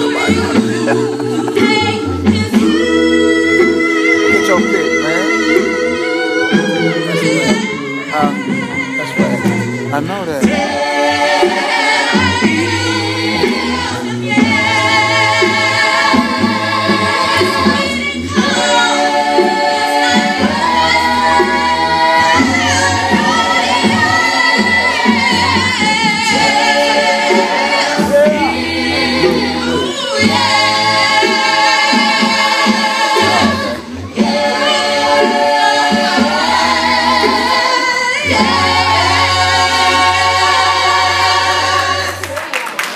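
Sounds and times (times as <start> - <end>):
vocal group singing in harmony: 0.0 - 42.9.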